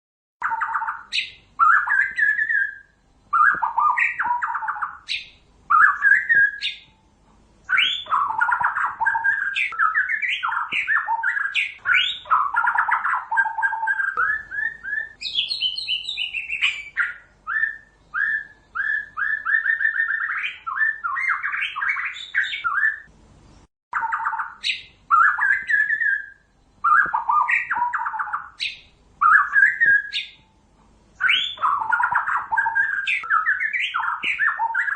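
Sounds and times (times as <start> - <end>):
songbird whistling and trilling: 0.4 - 7.0, 7.6 - 23.1, 23.9 - 30.6, 31.2 - 34.9.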